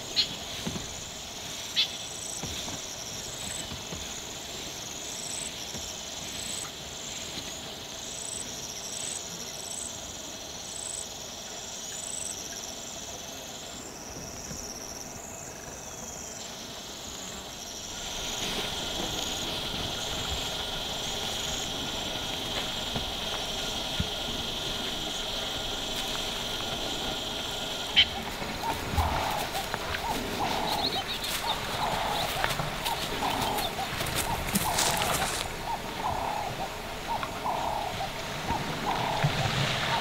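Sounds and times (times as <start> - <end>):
crickets and insects chirping: 0.0 - 40.0.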